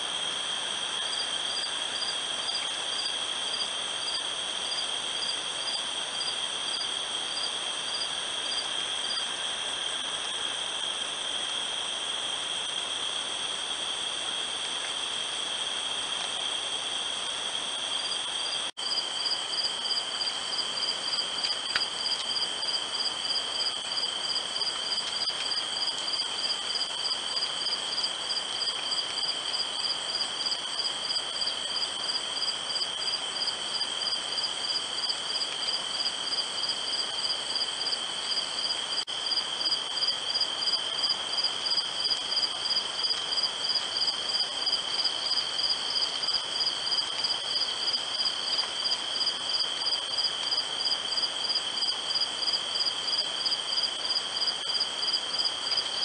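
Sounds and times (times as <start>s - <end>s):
cricket chirping fast: 0.0s - 56.0s
cricket trilling: 0.9s - 9.3s, 17.9s - 56.0s.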